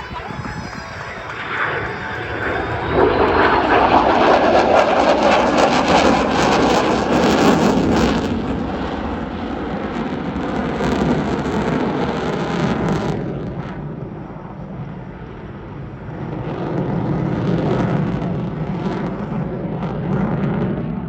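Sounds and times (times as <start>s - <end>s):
jet engines deep rushing rumble: 0.0s - 21.0s.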